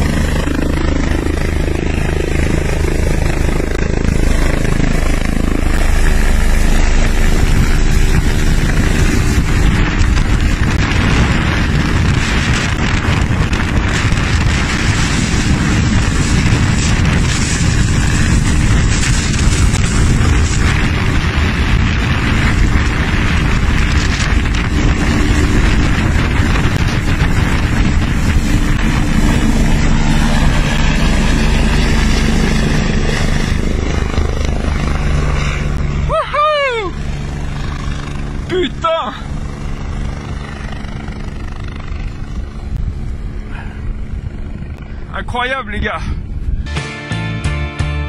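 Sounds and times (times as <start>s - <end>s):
rotor downwash wind noise: 0.0s - 46.8s
helicopter hovering overhead: 0.0s - 48.0s.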